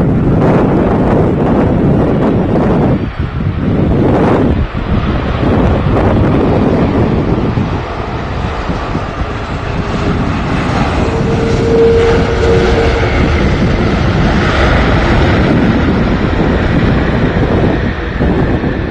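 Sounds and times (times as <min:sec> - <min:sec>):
jet engine whine: 0:00.0 - 0:18.9
jet engines rushing: 0:00.0 - 0:18.9
wind buffeting microphone: 0:00.0 - 0:18.9.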